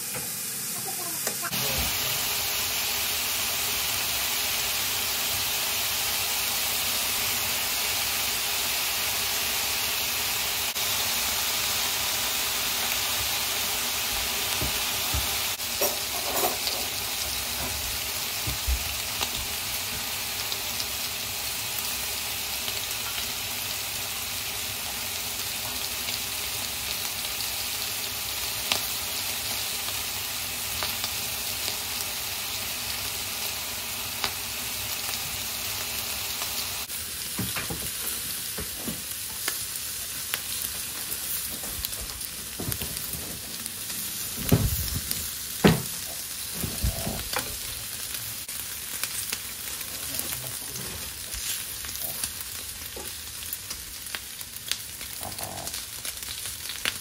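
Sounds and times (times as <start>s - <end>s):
bacon sizzling on a griddle: 0.0s - 57.0s.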